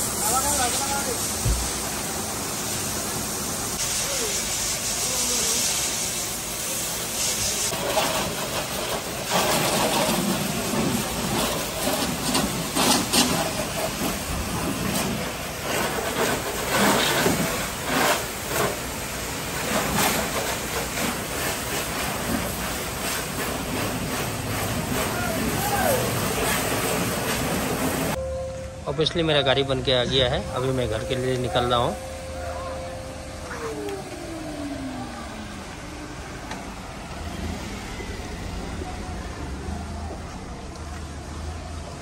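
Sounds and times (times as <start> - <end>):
pressure washer jet hissing: 0.0 - 28.2, 29.0 - 39.1.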